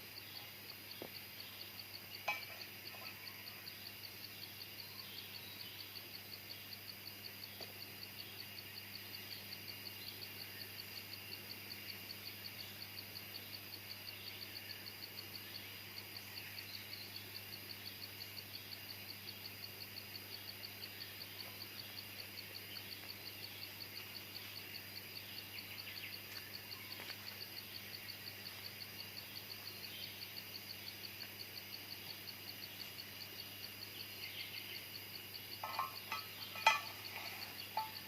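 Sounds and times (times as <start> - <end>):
insect chirping: 0.0 - 38.0.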